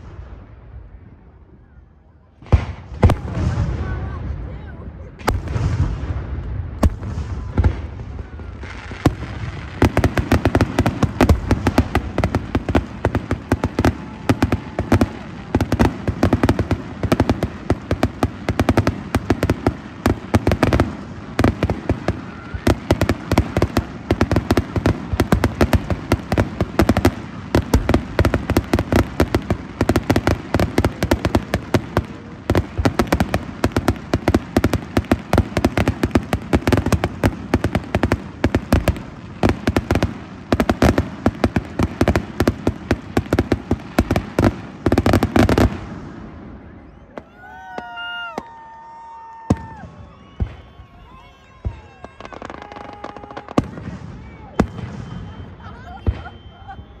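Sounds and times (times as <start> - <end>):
fireworks crackling and popping: 0.0 - 1.3, 2.3 - 57.0
firework bangs: 2.4 - 4.5, 5.1 - 57.0.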